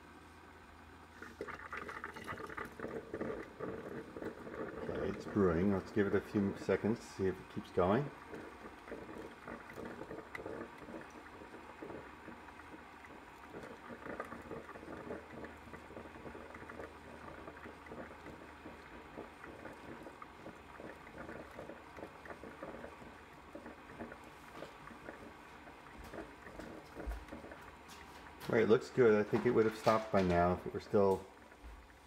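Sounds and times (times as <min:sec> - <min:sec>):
coffee maker crackling and bubbling: 0:00.0 - 0:32.0.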